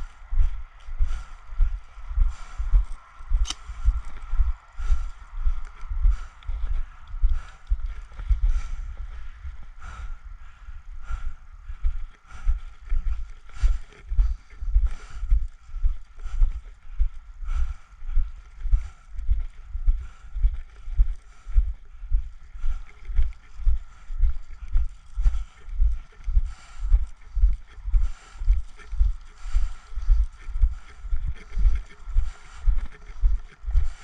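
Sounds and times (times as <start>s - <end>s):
footsteps walking on ground cover: 0.0s - 34.0s.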